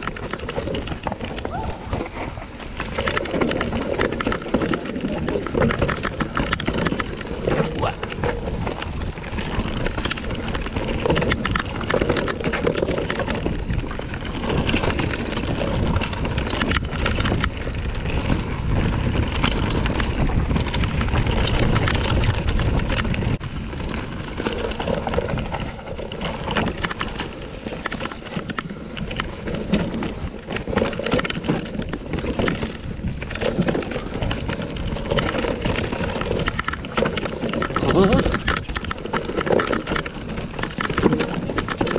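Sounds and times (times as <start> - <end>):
bike rattling and clattering: 0.0 - 41.9
bike tyres rolling over dirt: 0.0 - 41.9
wind buffeting microphone: 0.0 - 41.9.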